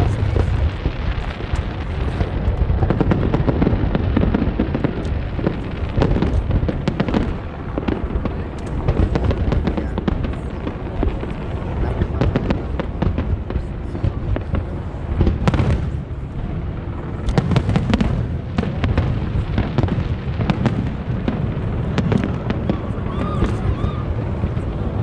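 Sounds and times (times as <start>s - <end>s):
fireworks booming: 0.0s - 25.0s
fireworks crackling: 0.0s - 25.0s.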